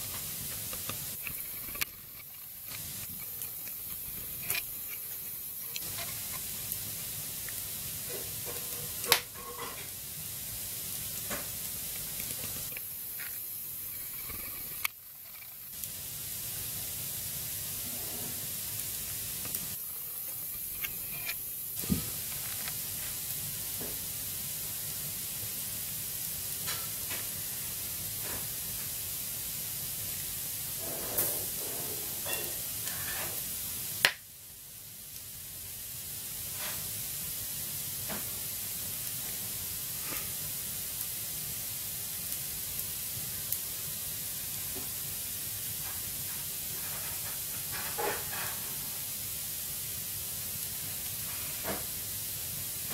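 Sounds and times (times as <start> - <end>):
firewood crackling and popping: 0.0 - 52.9.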